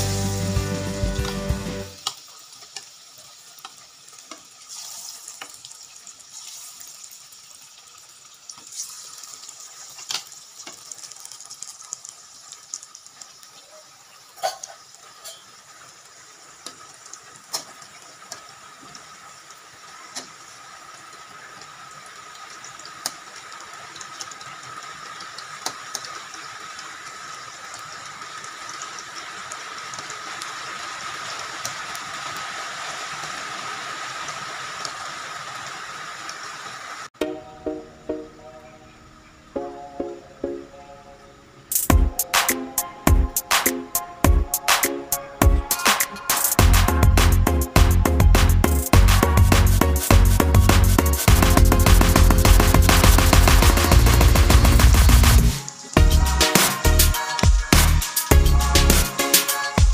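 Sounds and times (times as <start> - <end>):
oil sizzling and popping: 0.0 - 37.2, 41.7 - 59.9.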